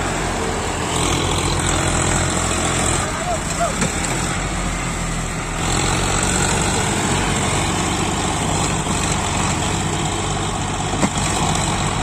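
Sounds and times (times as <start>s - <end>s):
tractor diesel engines labouring: 0.0s - 12.0s.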